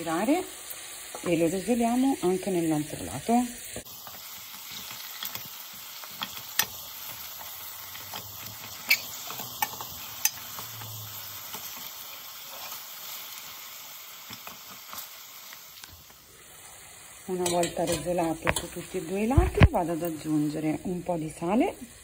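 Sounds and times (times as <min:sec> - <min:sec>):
meat sizzling in hot oil: 0:00.0 - 0:22.0.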